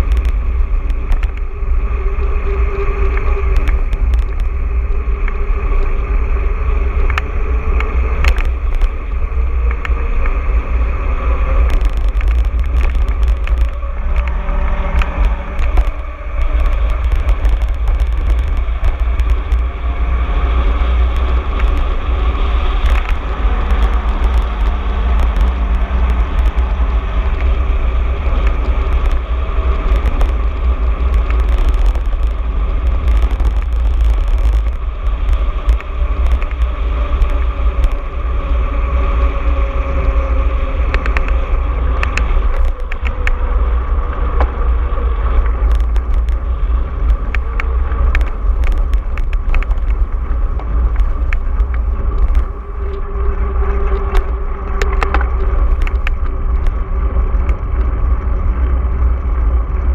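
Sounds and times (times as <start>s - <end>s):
bike clicks and rattles: 0.0s - 59.9s
bike tyres on rough ground: 0.0s - 59.9s
wind rumbling on microphone: 0.0s - 59.9s.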